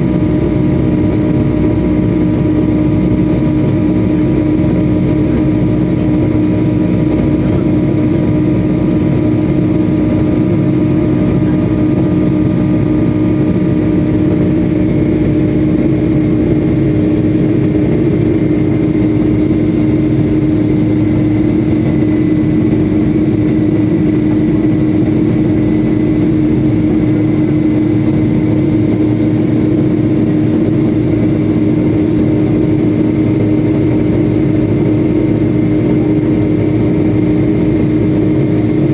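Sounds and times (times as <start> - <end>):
airflow noise: 0.0 - 38.9
jet engine drone: 0.0 - 38.9
low cabin hum: 0.0 - 38.9.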